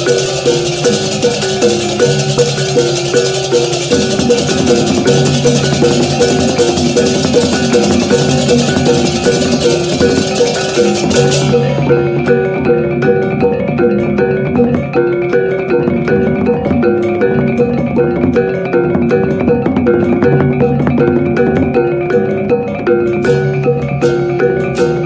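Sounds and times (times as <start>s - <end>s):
gamelan metallophones playing: 0.0s - 25.0s.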